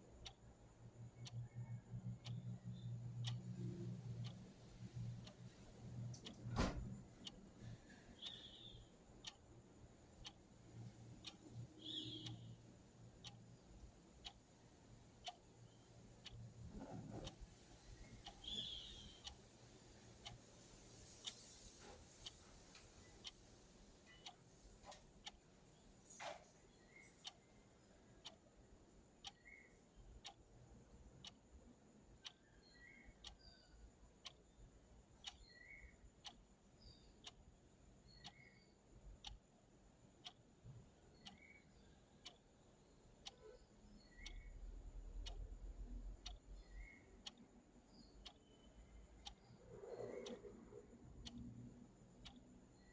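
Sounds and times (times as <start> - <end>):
clock ticking: 0.0 - 19.4, 20.0 - 20.4, 21.1 - 22.5, 23.1 - 23.4, 24.0 - 52.9.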